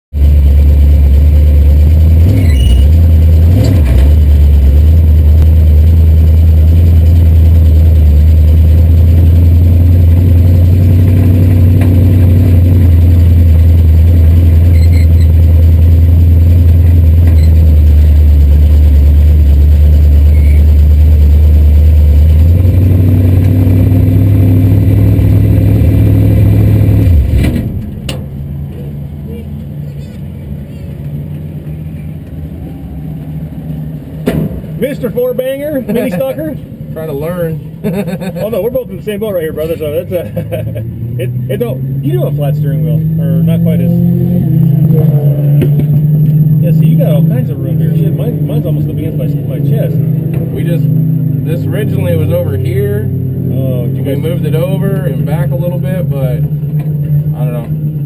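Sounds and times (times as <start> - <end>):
race car engine idling: 0.1 - 58.0.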